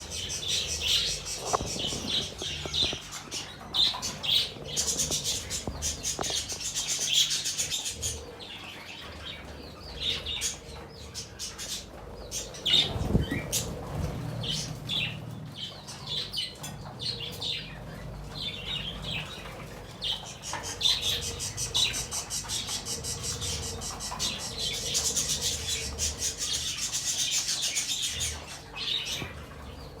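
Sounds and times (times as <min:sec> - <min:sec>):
budgerigars chirping: 0:00.0 - 0:29.8.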